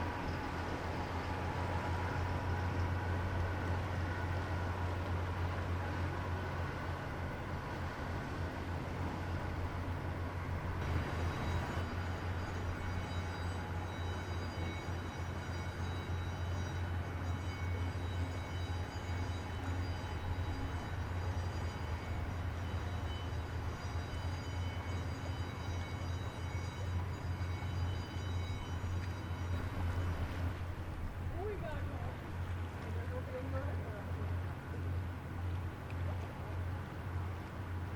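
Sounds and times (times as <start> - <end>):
ship diesel engines humming: 0.0 - 37.9.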